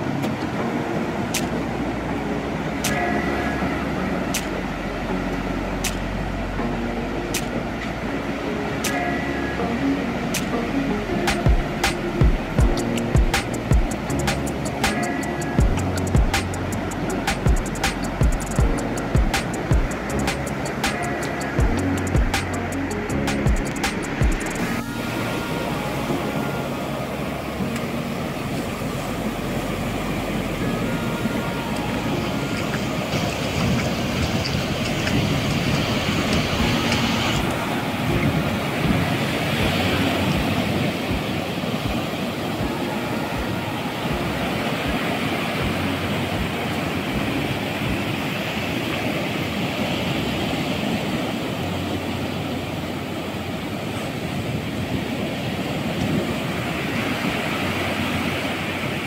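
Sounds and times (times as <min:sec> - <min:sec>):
surf breaking in shallow water: 0:00.0 - 0:59.0
wind rumbling on microphone: 0:00.0 - 0:59.0.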